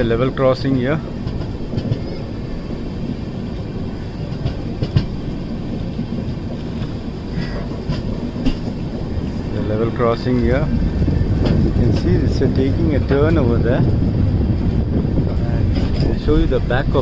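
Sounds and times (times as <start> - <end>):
train coaches rumbling: 0.0 - 17.0
wheels clacking on rails: 0.0 - 17.0.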